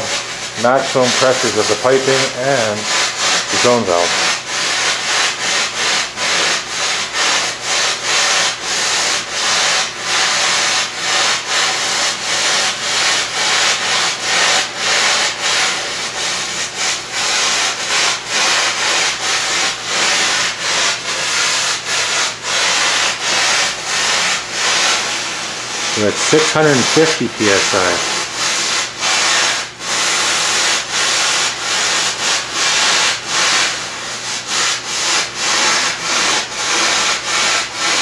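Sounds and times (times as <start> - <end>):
gas hissing from a pipe: 0.0 - 38.0.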